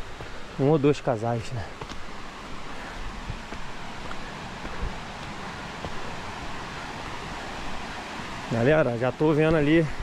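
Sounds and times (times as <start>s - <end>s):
footsteps on dirt trail: 0.0s - 10.0s
steady rushing noise: 0.0s - 10.0s.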